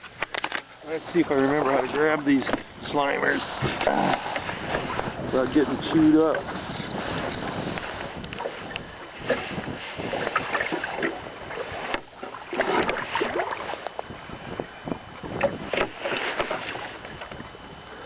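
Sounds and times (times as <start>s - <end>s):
water splashing beside boat: 0.0s - 18.0s.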